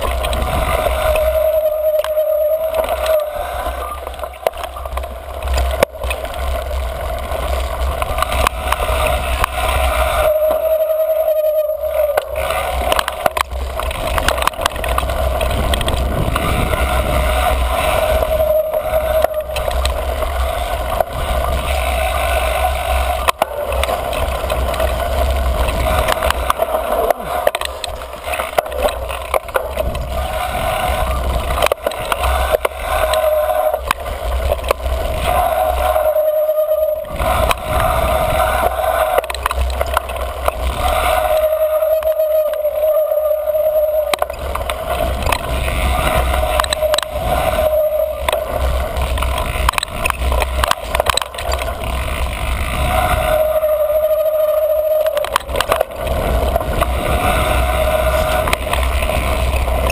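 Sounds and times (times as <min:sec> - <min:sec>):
bike rattling over trail: 0:00.0 - 0:59.9
brake squeal: 0:00.0 - 0:59.9
wind rumble on microphone: 0:00.0 - 0:59.9.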